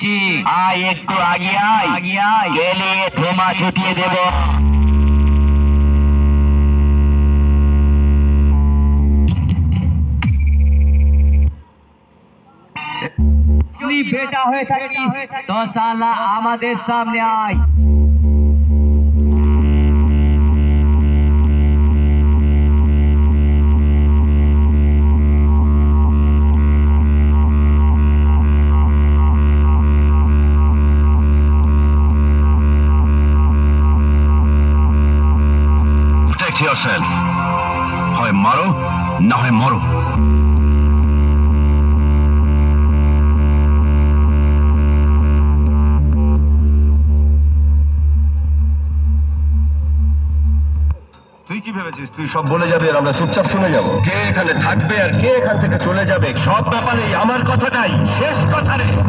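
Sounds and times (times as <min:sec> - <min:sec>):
deep electronic bass drone: 0:03.2 - 0:11.6, 0:13.1 - 0:13.9, 0:17.5 - 0:51.2, 0:53.1 - 0:59.0.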